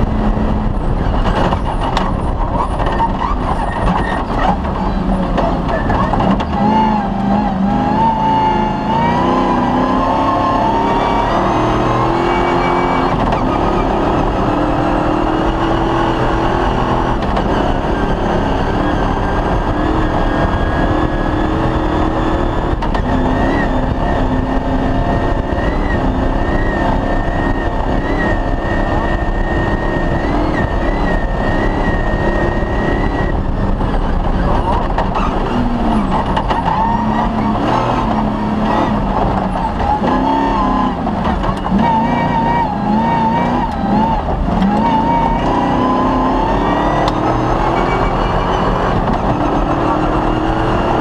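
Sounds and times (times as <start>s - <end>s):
rally car engine running hard: 0.0s - 51.0s.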